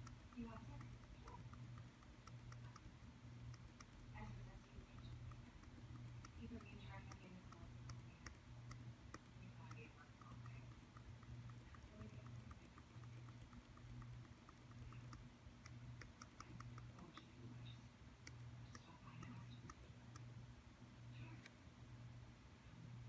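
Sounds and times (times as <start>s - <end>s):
computer clicking: 0.0s - 20.4s
low steady hum: 0.0s - 23.0s.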